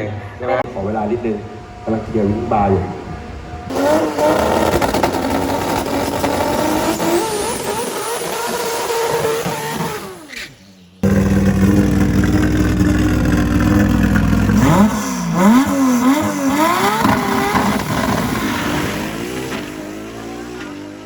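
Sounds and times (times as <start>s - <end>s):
drag car engine revving: 1.0s - 21.0s.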